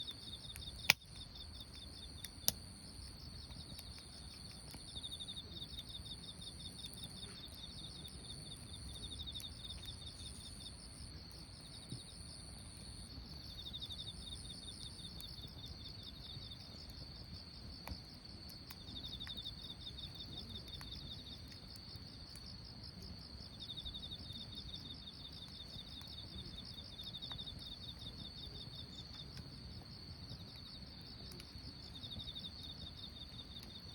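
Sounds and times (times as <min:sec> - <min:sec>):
campfire popping: 0:00.0 - 0:33.9
crickets and insects trilling: 0:00.0 - 0:33.9.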